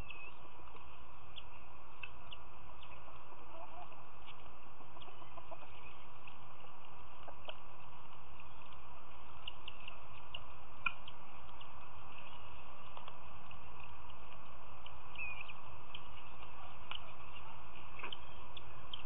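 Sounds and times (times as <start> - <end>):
faint high ticks and chirps: 0.0 - 19.0
outdoor background hiss: 0.0 - 19.0.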